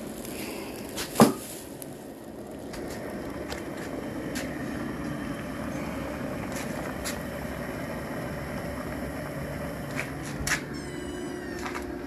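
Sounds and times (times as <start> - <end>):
gas burner running: 0.0 - 12.0.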